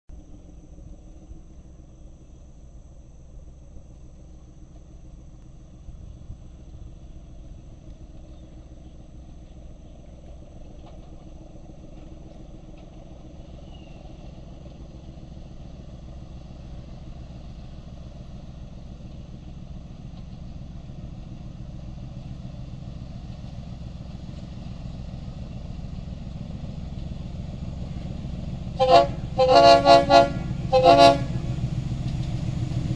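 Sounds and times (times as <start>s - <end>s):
diesel locomotive engine rumble: 0.1s - 32.9s.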